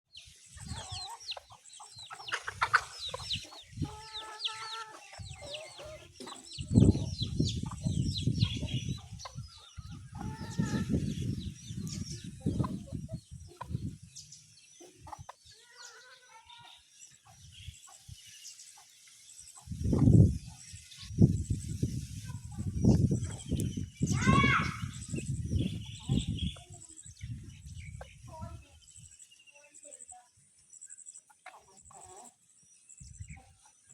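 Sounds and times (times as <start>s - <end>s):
chickens clucking: 0.2s - 21.2s, 22.2s - 23.9s, 25.1s - 28.6s, 31.0s - 32.5s.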